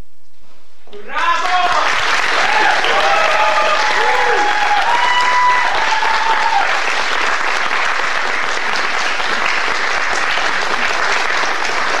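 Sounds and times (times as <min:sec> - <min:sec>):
audience applauding: 0:01.1 - 0:12.0.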